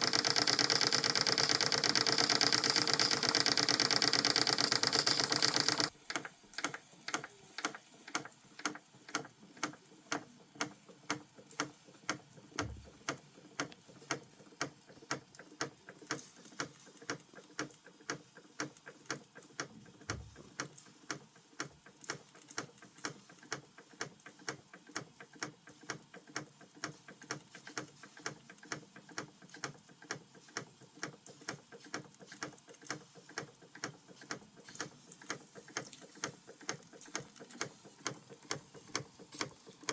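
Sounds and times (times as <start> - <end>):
model steam engine ticking: 0.0 - 39.9.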